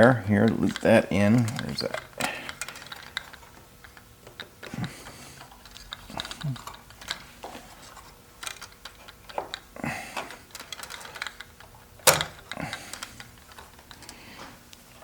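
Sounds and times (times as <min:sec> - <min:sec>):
small clicks taps and rustles: 0:00.4 - 0:14.8.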